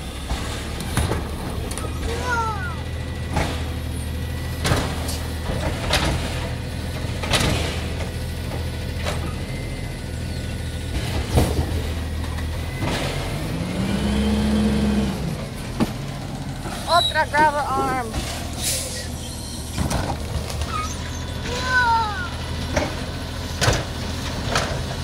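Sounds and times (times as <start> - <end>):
garbage truck engine hum: 0.0 - 25.0.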